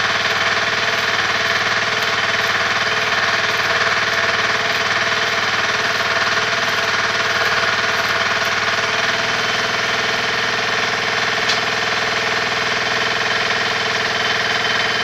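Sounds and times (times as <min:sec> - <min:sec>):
welding machine droning: 0:00.0 - 0:15.0.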